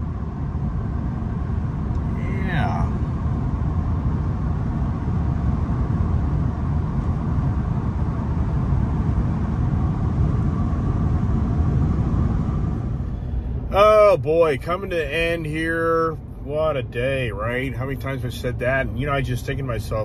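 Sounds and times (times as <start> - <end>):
faint steady whine: 0.0 - 20.0
road and tyre rumble: 0.0 - 20.0.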